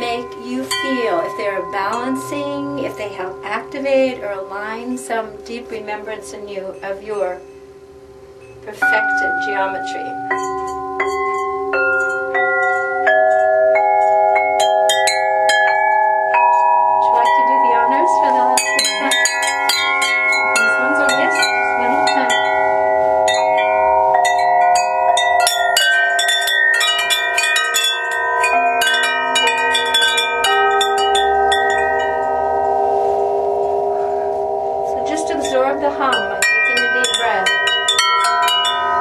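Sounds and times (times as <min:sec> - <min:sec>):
tuning tubes ringing: 0:00.0 - 0:39.0.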